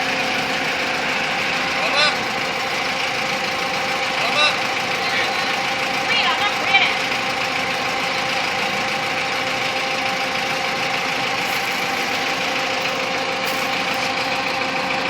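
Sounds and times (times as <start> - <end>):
constant whine: 0.0 - 15.0
truck engine idling: 0.0 - 15.0.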